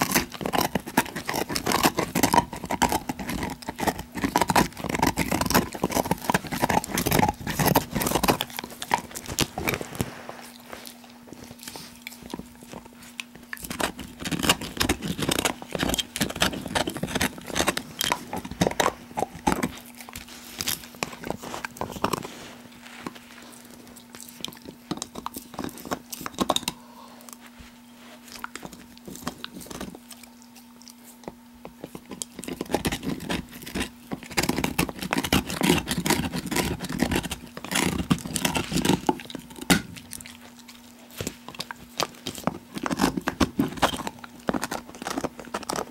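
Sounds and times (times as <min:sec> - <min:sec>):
dog crunching on a bone: 0:00.0 - 0:45.9.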